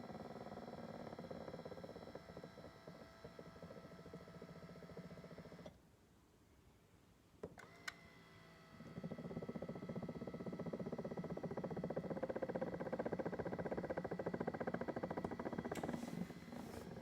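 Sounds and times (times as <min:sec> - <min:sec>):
massage seat motor rattling: 0:00.0 - 0:05.7, 0:07.6 - 0:17.0.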